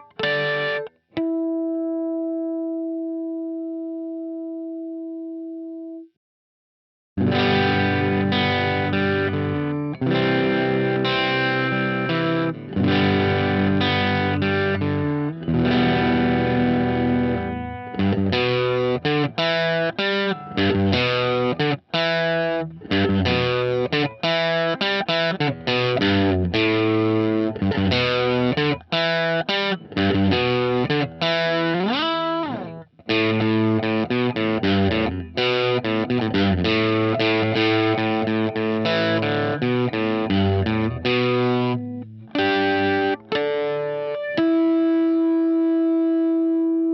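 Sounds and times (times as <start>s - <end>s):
electric guitar chords and licks: 0.0s - 6.1s, 7.2s - 46.9s.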